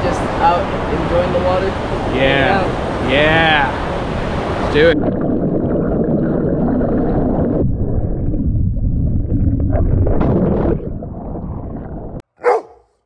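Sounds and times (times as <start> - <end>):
muffled churning ocean water: 0.0 - 12.2.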